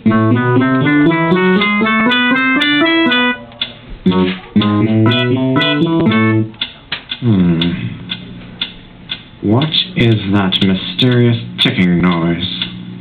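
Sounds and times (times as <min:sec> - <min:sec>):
upbeat plucked instrumental tune: 0:00.0 - 0:12.8.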